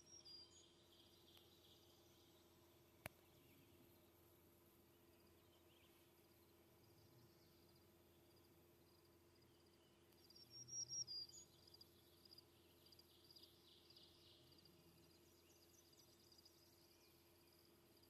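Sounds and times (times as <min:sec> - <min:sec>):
faint birdsong chirps and trills: 0:00.0 - 0:18.0.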